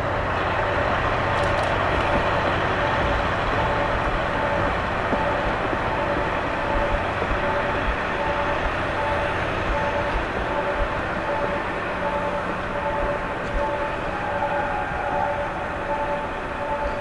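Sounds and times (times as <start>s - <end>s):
diesel train running: 0.0s - 17.0s.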